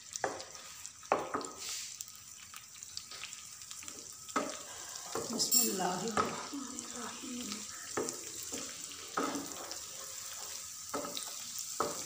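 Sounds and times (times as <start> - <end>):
garlic sizzling in hot fat: 0.0 - 12.0.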